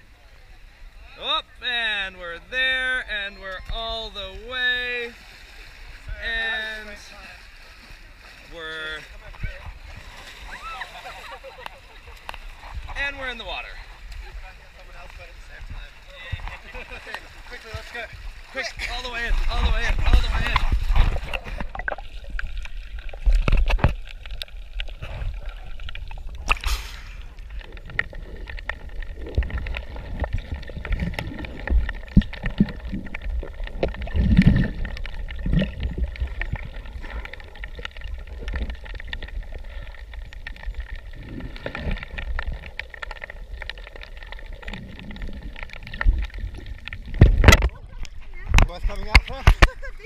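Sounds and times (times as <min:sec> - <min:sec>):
muffled underwater water rumble: 0:05.3 - 0:50.0.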